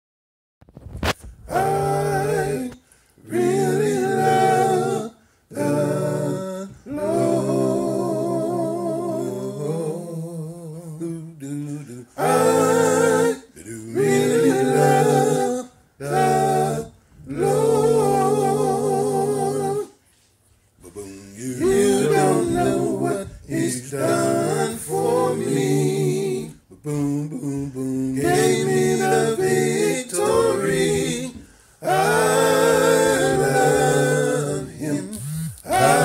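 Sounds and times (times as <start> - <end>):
man singing a cappella harmony: 1.5 - 20.0, 20.8 - 36.0.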